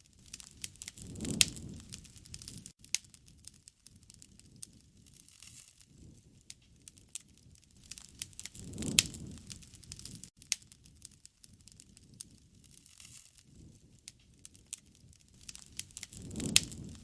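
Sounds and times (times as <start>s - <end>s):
bonfire crackling: 0.0s - 17.0s
fire pops and snaps: 0.0s - 17.0s
low rush of burning: 0.1s - 5.2s, 5.8s - 17.0s.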